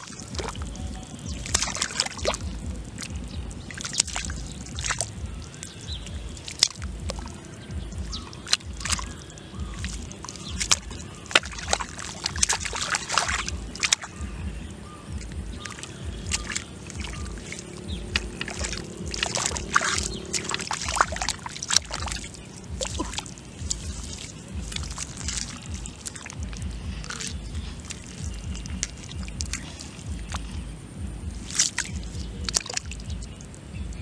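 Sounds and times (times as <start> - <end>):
short splashes: 0.0 - 14.3, 15.5 - 30.7, 31.3 - 33.4
hands squelching through mud: 0.0 - 33.6.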